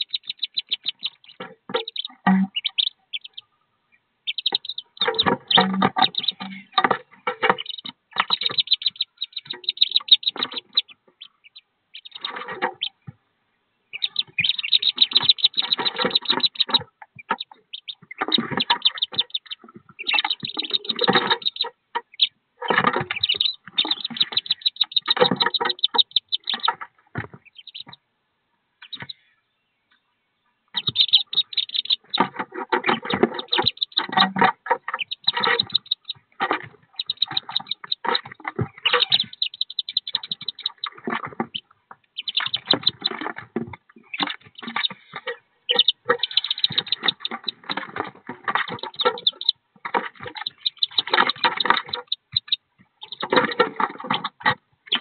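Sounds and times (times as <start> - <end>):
ducklings peeping: 0.0 - 28.1, 28.8 - 55.0.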